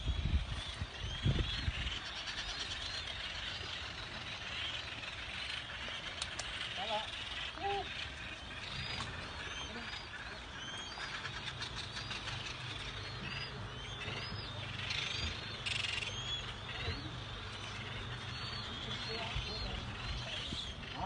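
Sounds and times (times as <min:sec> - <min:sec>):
seabird colony calling: 0:00.0 - 0:21.0.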